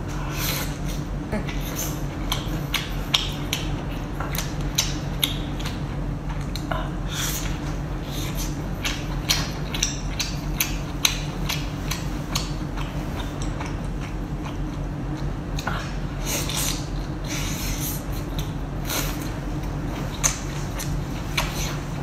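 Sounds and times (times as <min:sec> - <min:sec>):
steady low hum: 0:00.0 - 0:22.0
close-miked chewing: 0:00.3 - 0:22.0.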